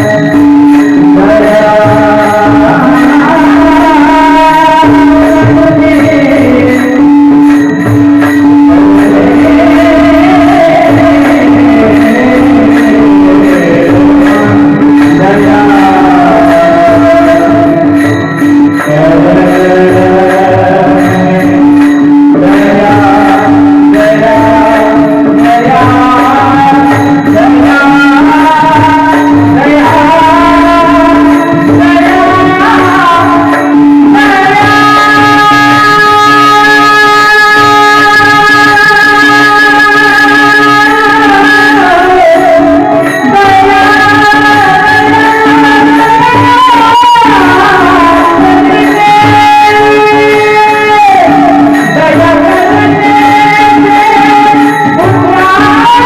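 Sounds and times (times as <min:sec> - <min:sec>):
devotional singing: 0:00.0 - 0:56.0.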